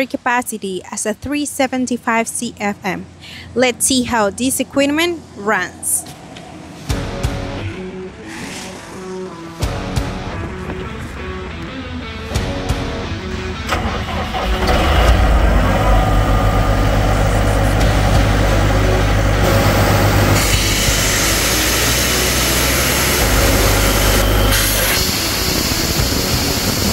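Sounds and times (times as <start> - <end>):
diesel engine starting and running: 2.3 - 26.9.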